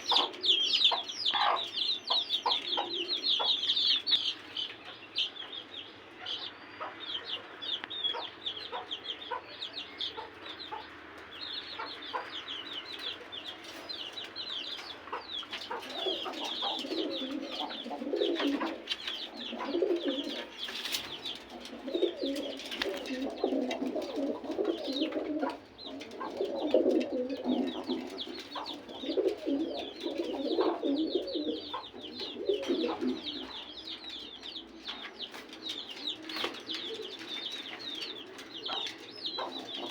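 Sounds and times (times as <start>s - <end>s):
pigeons cooing: 0.0s - 5.0s, 6.1s - 39.9s
birds chirping: 0.0s - 39.9s.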